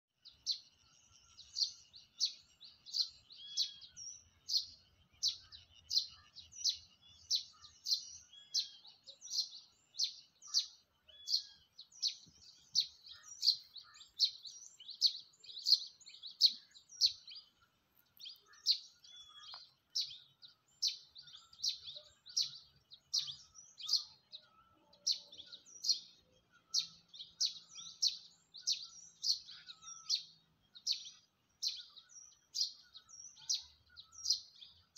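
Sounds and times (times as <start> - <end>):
bird chirping: 0.2 - 34.9.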